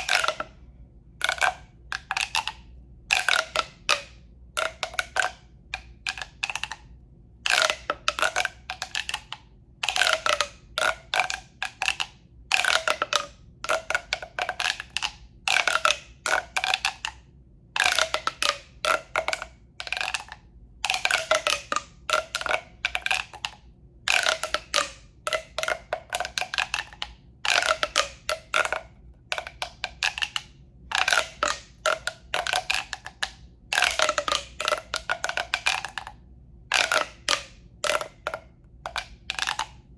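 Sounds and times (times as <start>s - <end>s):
taps and scratches on hollow tube: 0.0s - 0.6s, 1.2s - 39.9s.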